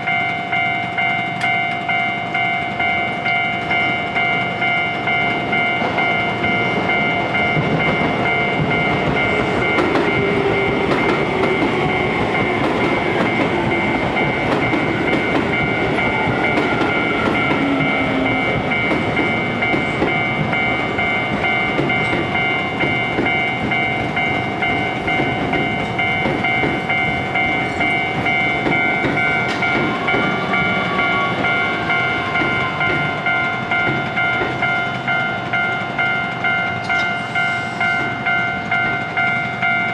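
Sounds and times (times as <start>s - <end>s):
electric train motor whine: 0.0s - 39.9s
level-crossing alarm bell ringing: 0.0s - 39.9s
train wheels clacking on rail joints: 0.0s - 39.9s.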